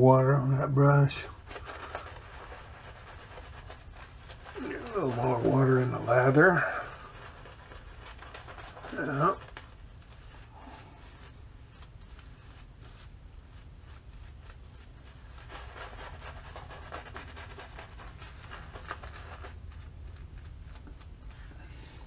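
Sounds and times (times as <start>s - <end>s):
shaving brush swishing on stubble: 1.1s - 21.6s.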